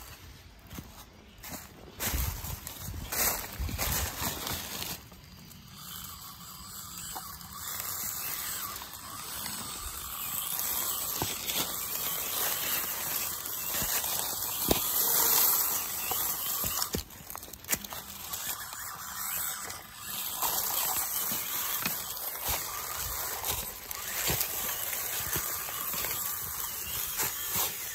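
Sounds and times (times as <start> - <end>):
footsteps crunching in dry leaves: 0.0 - 27.9
small electric motor whining: 0.0 - 27.9.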